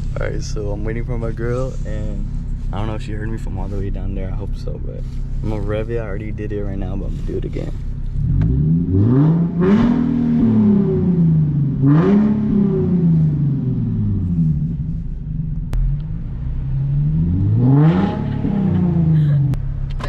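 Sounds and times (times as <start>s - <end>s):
car engine idling: 0.0s - 20.0s
car engine revving: 0.0s - 20.0s.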